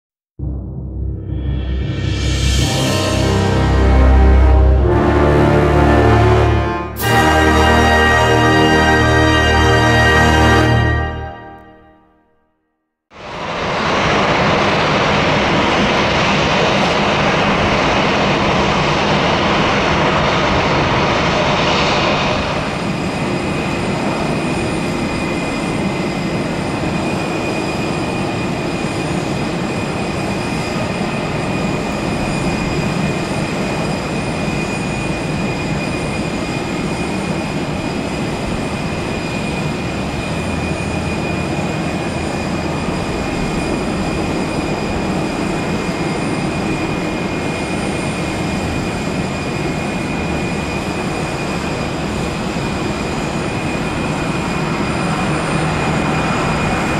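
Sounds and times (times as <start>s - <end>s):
jet engines rumbling and whining: 0.4s - 11.8s, 13.1s - 56.9s.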